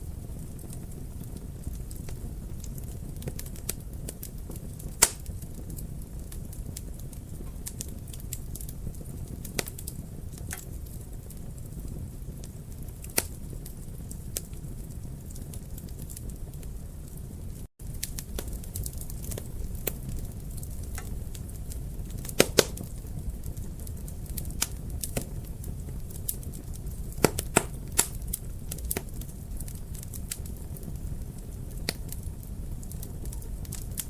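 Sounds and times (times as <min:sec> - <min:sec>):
fire crackling and popping: 0:00.0 - 0:34.0
fire flames rushing: 0:00.0 - 0:34.0.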